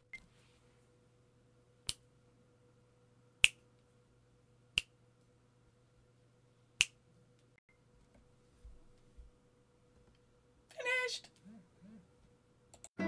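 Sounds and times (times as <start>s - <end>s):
faint electrical hum: 0.0s - 12.9s.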